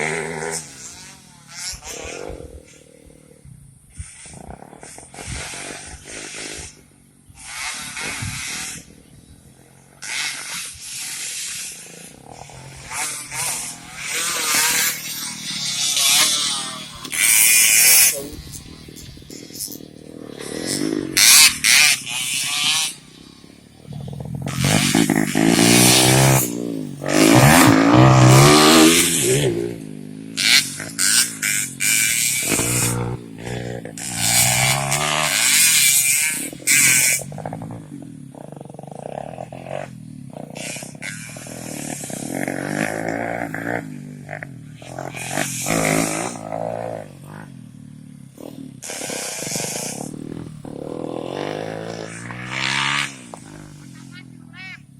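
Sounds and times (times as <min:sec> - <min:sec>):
racing motorcycles revving past: 0:00.0 - 0:54.9.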